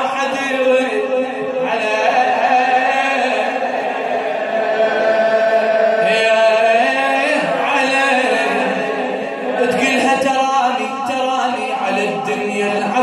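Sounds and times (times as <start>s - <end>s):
man chanting a lament: 0.0s - 13.0s.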